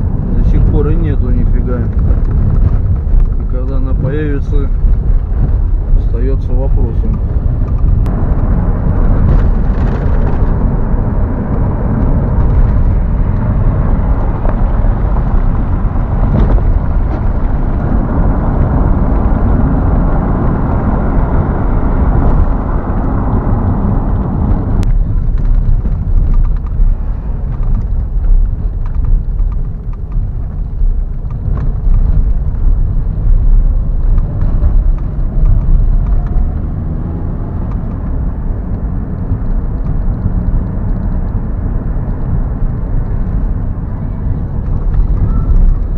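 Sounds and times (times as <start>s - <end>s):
car driving on rough road: 0.0s - 45.9s.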